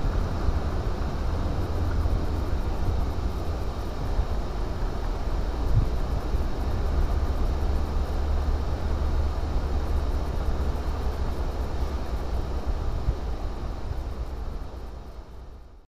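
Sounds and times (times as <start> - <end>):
diesel engine rumble: 0.0 - 14.8
road and wind noise: 0.0 - 15.8.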